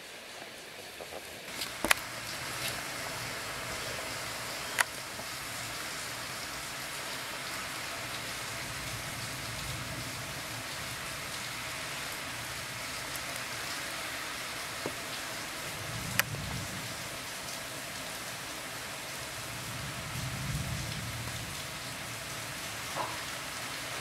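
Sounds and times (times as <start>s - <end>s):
heavy rain splashing on water: 0.0s - 24.0s.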